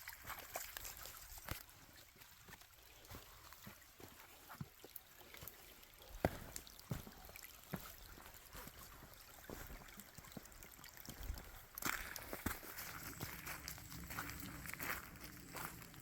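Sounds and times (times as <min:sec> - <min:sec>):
creek trickling: 0:00.0 - 0:16.0
footsteps on a trail: 0:00.2 - 0:16.0.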